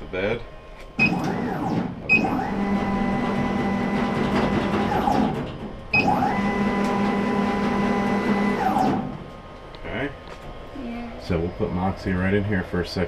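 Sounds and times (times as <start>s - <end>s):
motors humming and whining: 0.0s - 12.8s.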